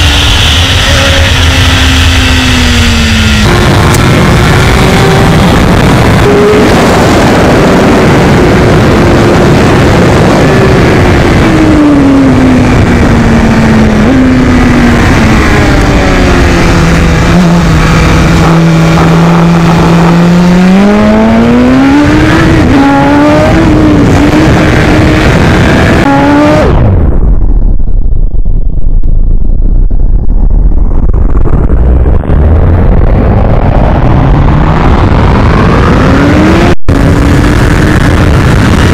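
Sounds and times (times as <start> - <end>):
sport bike engine: 0.0 - 27.2, 31.1 - 38.9
wind rumble on microphone: 0.0 - 38.9
wind rushing: 0.0 - 38.9.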